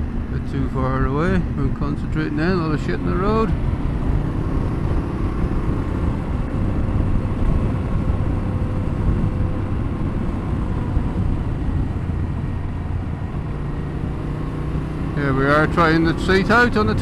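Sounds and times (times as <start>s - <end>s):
wind rumble on microphone: 0.0s - 15.6s
motorcycle engine running: 0.0s - 17.0s.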